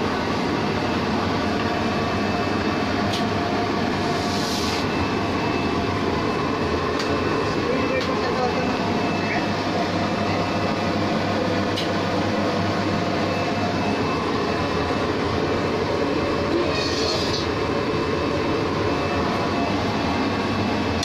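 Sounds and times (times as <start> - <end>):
air compressor humming: 0.0 - 21.0.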